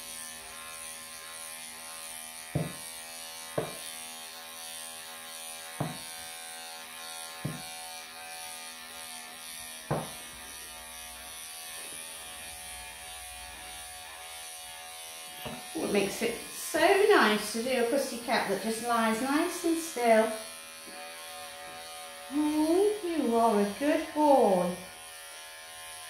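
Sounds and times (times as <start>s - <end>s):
electric clippers buzzing: 0.0s - 26.0s.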